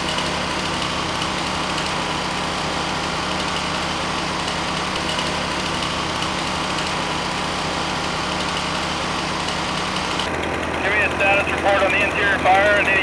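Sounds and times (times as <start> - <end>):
chainsaw running: 0.0 - 13.0
portable generator running: 0.0 - 13.0
truck engine running: 0.0 - 13.0.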